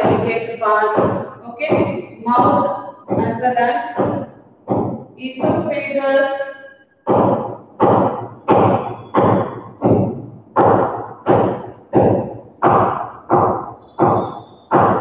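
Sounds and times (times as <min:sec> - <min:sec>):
rhythmic thudding: 0:00.0 - 0:15.0.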